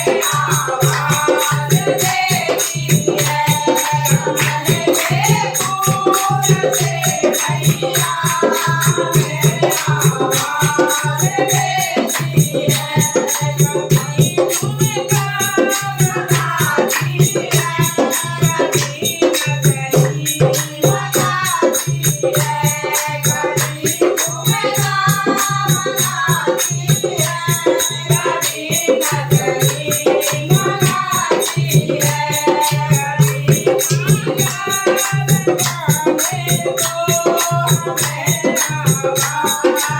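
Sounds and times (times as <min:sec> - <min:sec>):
devotional singing: 0:00.0 - 0:39.9
hand percussion with rattles: 0:00.0 - 0:39.9.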